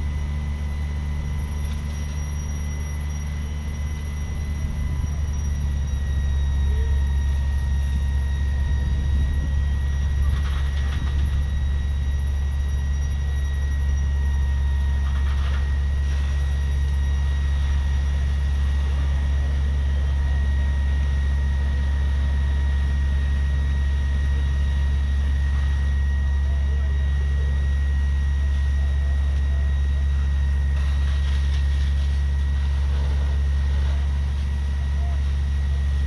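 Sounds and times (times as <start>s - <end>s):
diesel engine rumble: 0.0s - 36.0s
faint steady whine: 0.0s - 36.0s.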